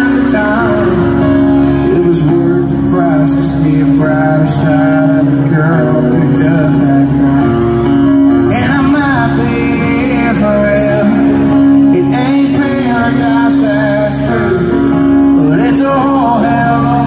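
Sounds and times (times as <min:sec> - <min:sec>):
country band playing: 0:00.0 - 0:17.0
person singing: 0:00.0 - 0:17.0.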